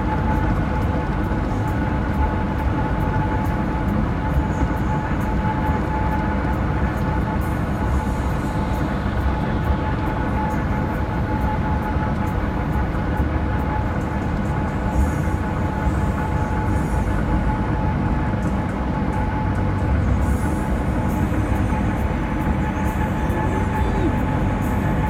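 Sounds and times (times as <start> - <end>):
constant humming tone: 0.0 - 25.0
vehicle road noise rumble: 0.0 - 25.0.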